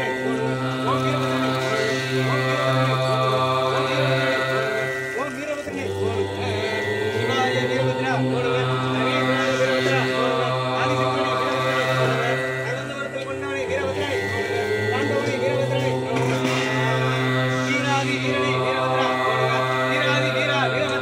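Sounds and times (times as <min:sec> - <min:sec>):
drone of held tones: 0:00.0 - 0:21.0
mantra chanting: 0:00.0 - 0:21.0.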